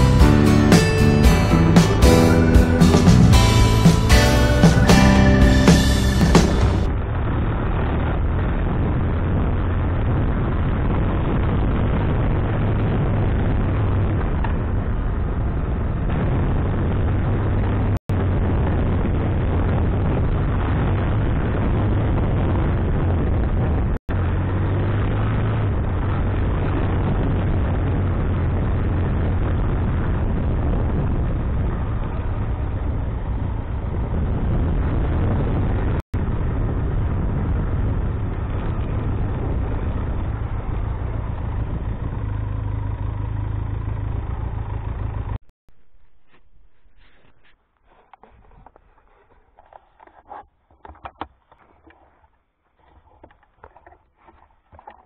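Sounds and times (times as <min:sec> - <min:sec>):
motorcycle engine rumble: 0:00.0 - 0:52.0
road and vibration noise: 0:00.0 - 0:55.0.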